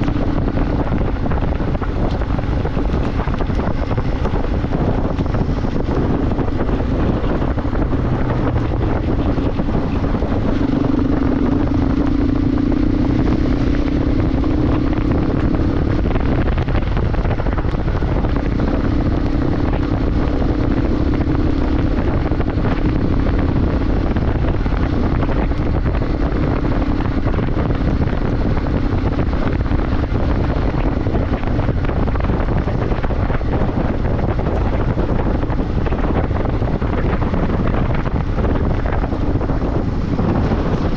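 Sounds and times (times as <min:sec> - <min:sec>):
motorcycle engine cruising: 0:00.0 - 0:40.9
wind rumble on microphone: 0:00.0 - 0:40.9.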